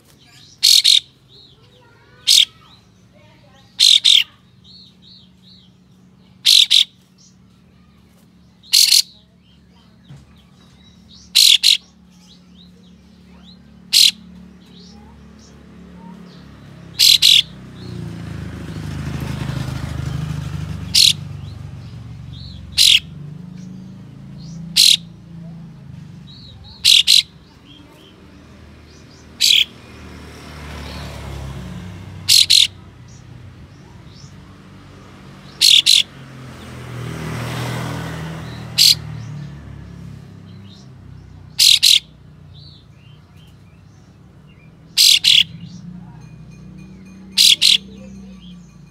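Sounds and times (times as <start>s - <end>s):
bulbul sharp calls: 0.0s - 48.9s.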